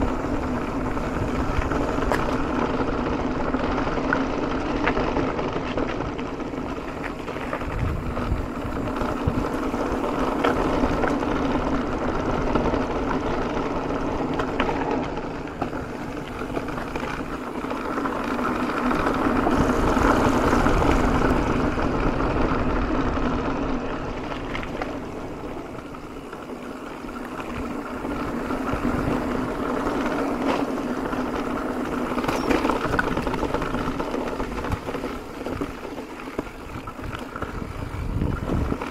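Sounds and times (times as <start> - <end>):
bike clicks and rattles: 0.0 - 38.9
bike tyres humming on concrete: 0.0 - 38.9.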